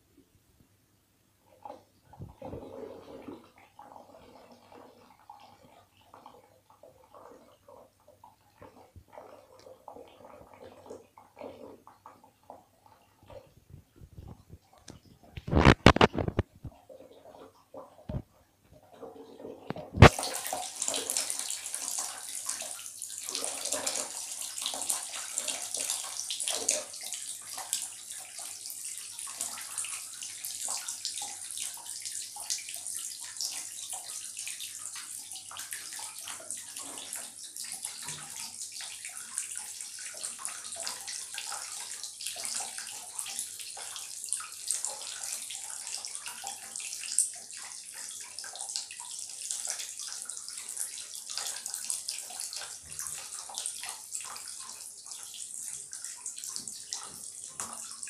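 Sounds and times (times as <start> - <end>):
bath tap water pouring: 1.5 - 58.0.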